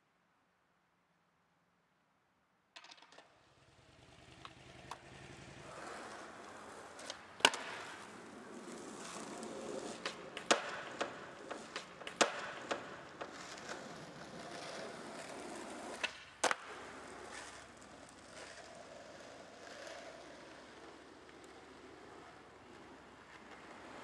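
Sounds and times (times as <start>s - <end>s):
skateboard clicks and clacks: 2.8s - 24.0s
skateboard wheels rolling on asphalt: 2.8s - 24.0s.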